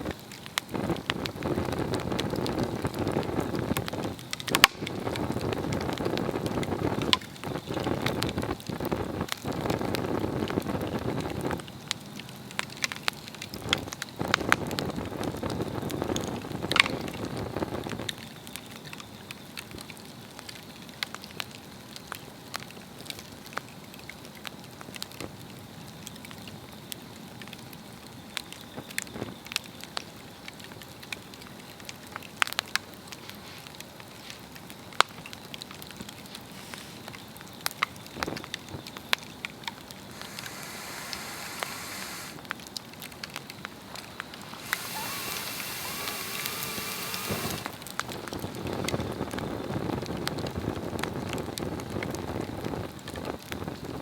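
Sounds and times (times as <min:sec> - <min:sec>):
log fire crackling: 0:00.0 - 0:25.9, 0:27.4 - 0:54.0
steady hiss of flame: 0:00.0 - 0:54.0.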